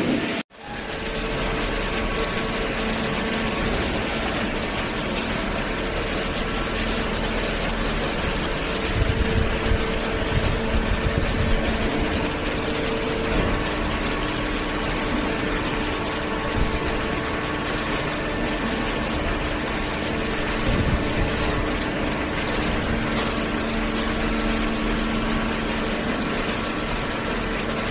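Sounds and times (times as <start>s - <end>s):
machine drone with hums: 0.0s - 27.9s.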